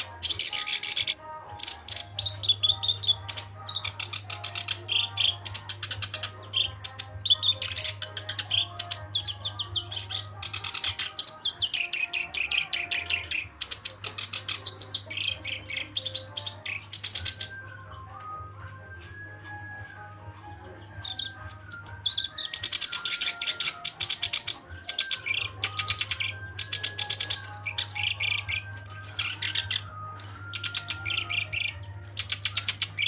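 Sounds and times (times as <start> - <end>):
warbler singing chattering song: 0.0 - 33.0.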